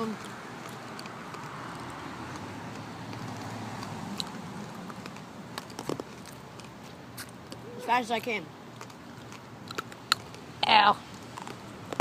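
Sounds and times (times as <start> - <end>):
hard candy being chewed: 0.0 - 10.4, 11.1 - 12.0
road traffic rumble: 0.0 - 12.0.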